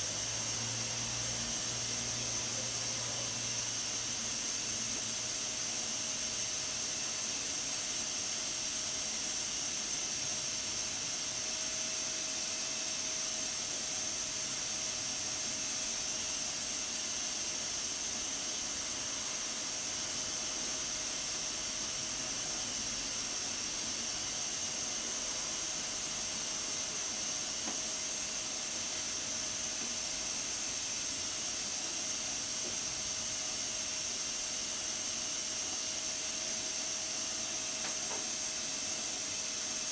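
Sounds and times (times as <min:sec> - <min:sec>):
pressure cooker steam hiss: 0:00.0 - 0:39.9.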